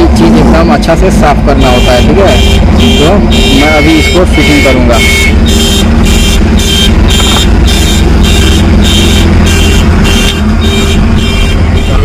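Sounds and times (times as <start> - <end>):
vehicle engine running: 0.0 - 12.0
electronic beeper: 1.6 - 12.0.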